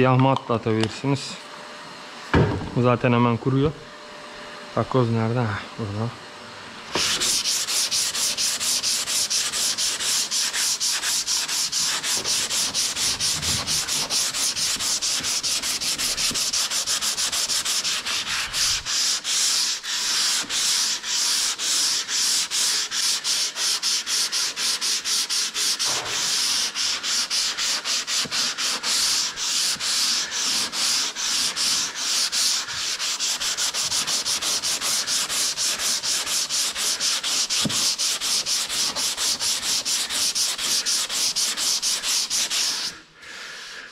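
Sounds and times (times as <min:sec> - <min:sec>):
sandpaper scraping body filler: 0:06.9 - 0:43.0.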